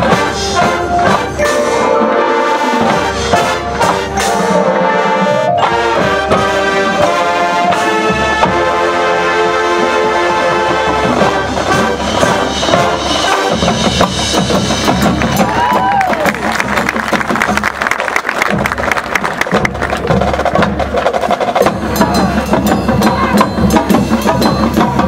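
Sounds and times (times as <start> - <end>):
marching band brass chords: 0.0 - 25.0
marching percussion: 0.0 - 25.0.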